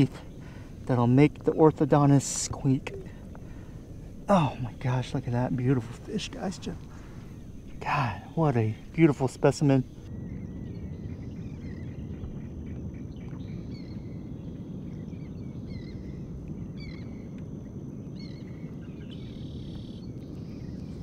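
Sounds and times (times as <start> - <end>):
low outdoor background noise: 0.0 - 21.0.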